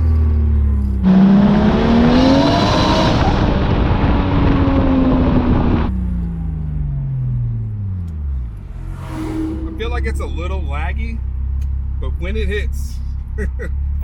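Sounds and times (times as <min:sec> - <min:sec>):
car engine roaring under full throttle: 0:00.0 - 0:14.0.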